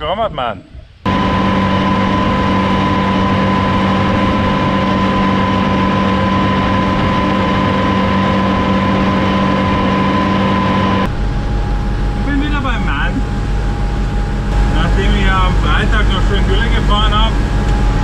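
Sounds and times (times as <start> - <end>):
high mechanical whine: 0.7 - 18.0
mower and tractor drone: 1.1 - 18.0.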